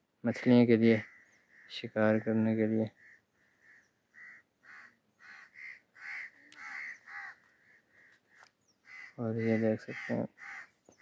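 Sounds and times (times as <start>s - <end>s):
bird calling: 0.8s - 11.0s.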